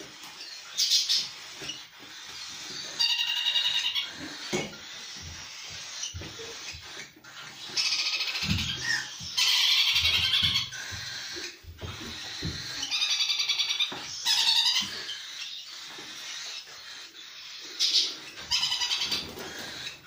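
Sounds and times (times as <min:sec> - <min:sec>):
young cockatiels begging calls: 0:00.0 - 0:20.0.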